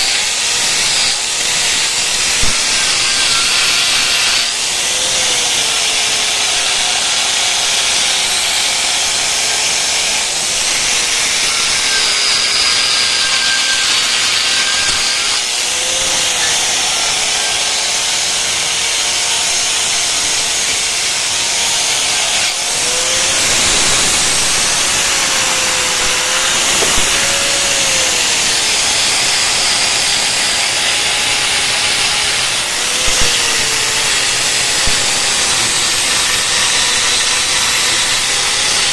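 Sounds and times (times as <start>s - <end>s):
angle grinder grinding metal: 0.0s - 38.9s.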